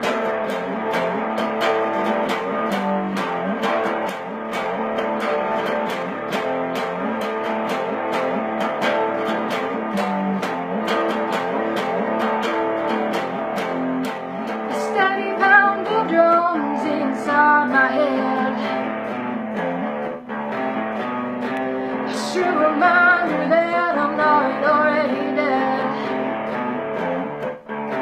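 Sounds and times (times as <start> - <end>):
guitar strumming: 0.0 - 28.0.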